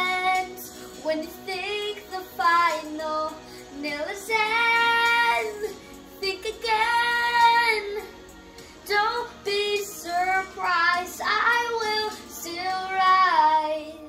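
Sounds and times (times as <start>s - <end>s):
boy singing: 0.0s - 8.1s, 8.9s - 14.0s.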